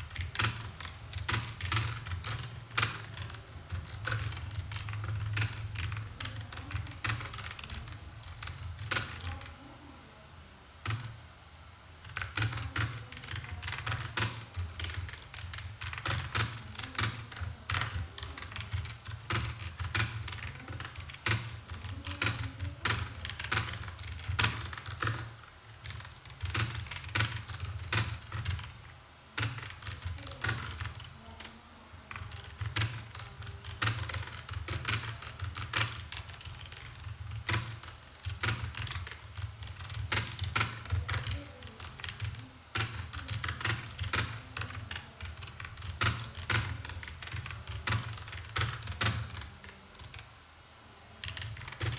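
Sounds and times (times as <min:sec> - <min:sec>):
fast typing on keyboard: 0:00.0 - 0:09.6, 0:10.8 - 0:11.2, 0:12.0 - 0:50.3, 0:51.2 - 0:51.9.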